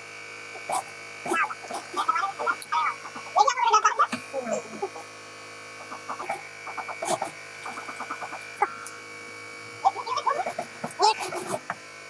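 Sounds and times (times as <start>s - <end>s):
sewing machine motor hum: 0.0s - 12.0s.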